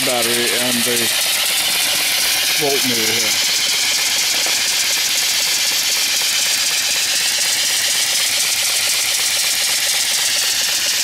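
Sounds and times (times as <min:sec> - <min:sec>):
steam engine hissing: 0:00.0 - 0:11.0.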